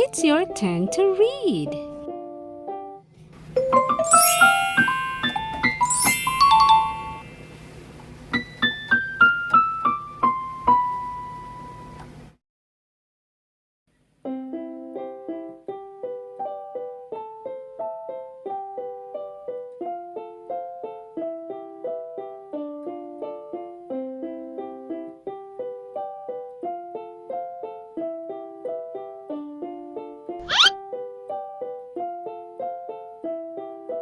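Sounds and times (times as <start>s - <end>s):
gentle piano melody: 0.0s - 12.2s, 14.2s - 34.0s.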